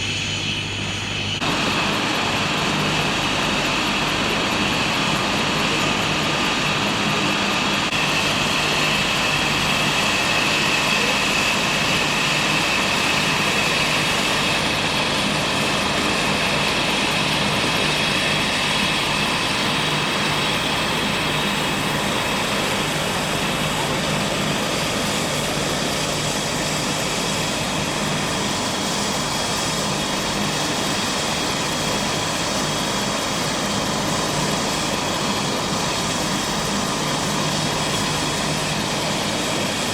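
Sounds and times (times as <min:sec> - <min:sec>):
helicopter turbine engine running: 0:00.0 - 0:39.9.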